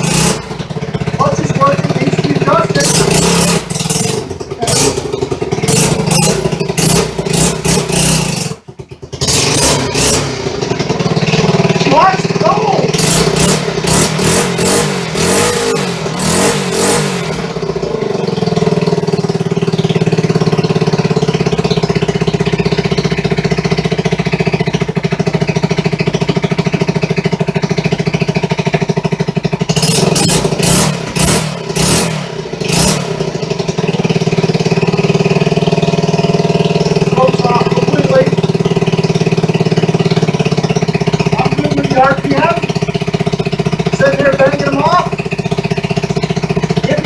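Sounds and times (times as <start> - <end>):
motorcycle engine revving and idling: 0.0 - 47.0.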